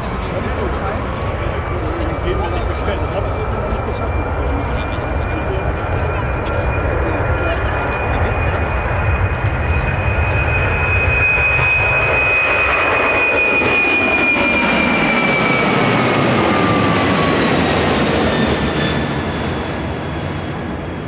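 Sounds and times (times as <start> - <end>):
jet roar with fan whine: 0.0 - 21.0.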